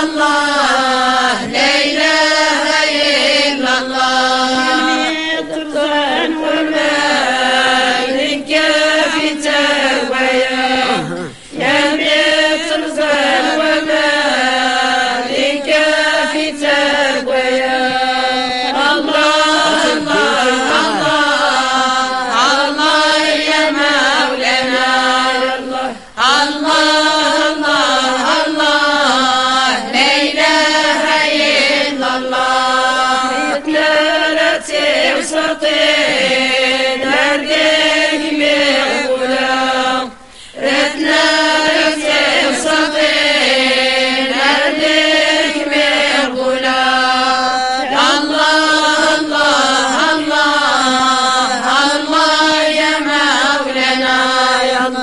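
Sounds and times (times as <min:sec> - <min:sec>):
women chanting praise songs: 0:00.0 - 0:55.0.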